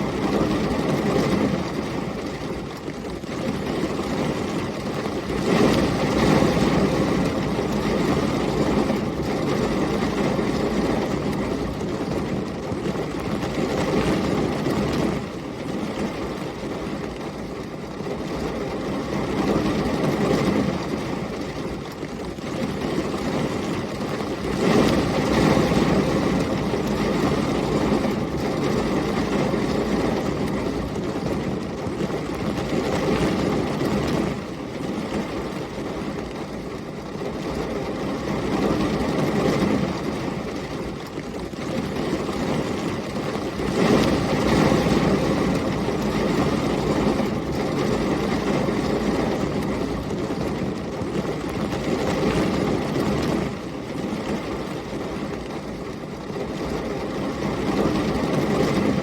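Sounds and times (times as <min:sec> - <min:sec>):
heavy rain: 0:00.0 - 0:59.0
storm wind: 0:00.0 - 0:59.0.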